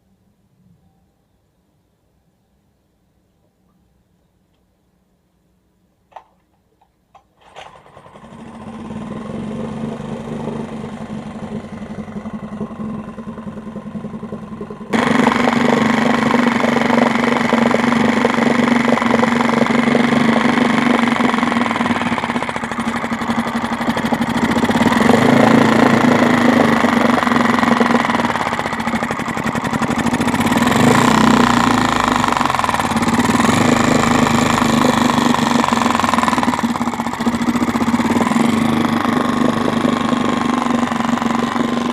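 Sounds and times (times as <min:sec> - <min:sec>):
outboard motor running: 0:07.5 - 0:41.9.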